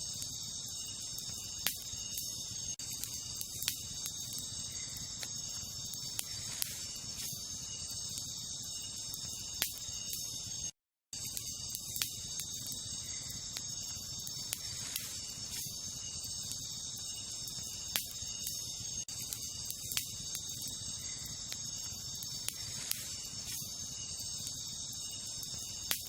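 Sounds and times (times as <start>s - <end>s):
campfire crackling and popping: 0.0s - 10.6s, 11.2s - 26.0s
night insects chirring: 0.0s - 26.0s.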